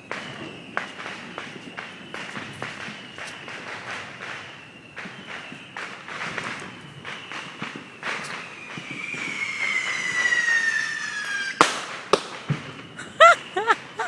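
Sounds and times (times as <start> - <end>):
fireworks popping and banging: 0.0 - 14.0
whistling firework: 0.0 - 14.0.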